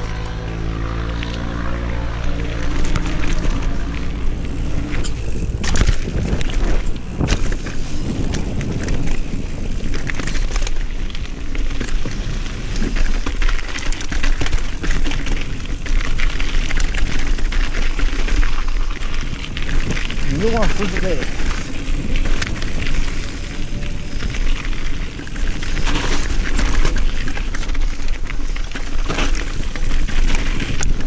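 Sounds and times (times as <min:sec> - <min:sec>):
bike clicking and rattling: 0:00.0 - 0:31.0
tyres crunching on dirt: 0:00.0 - 0:31.0
wind buffeting microphone: 0:02.4 - 0:28.2.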